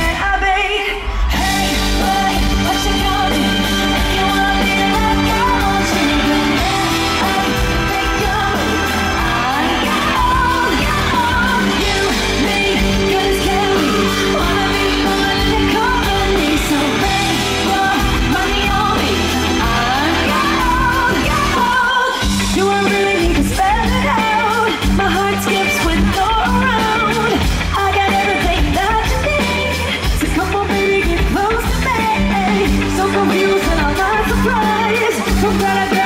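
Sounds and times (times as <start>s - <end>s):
female vocal: 0.0s - 36.0s
live rock band: 0.0s - 36.0s.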